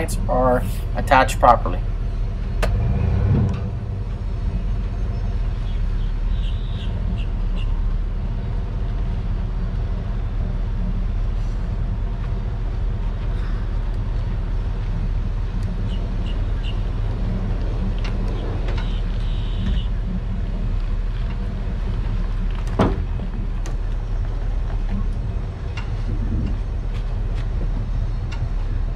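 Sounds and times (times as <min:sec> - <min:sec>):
vehicle engine rumbling: 0:00.0 - 0:28.9.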